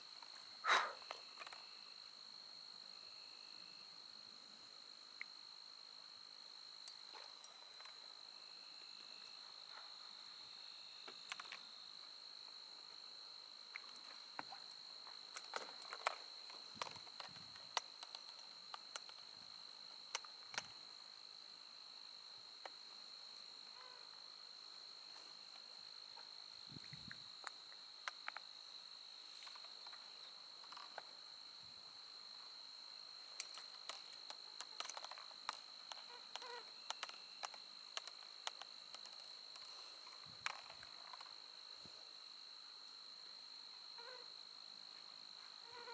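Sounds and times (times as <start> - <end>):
insect chorus trilling: 0.0 - 45.9.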